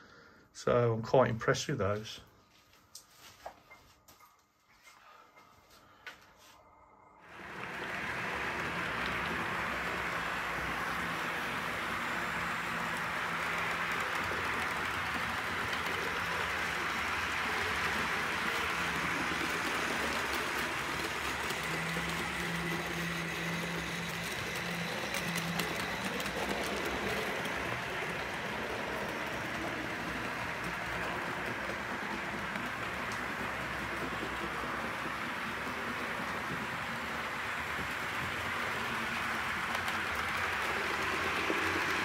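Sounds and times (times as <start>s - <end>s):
model train motors whirring: 7.2s - 42.0s.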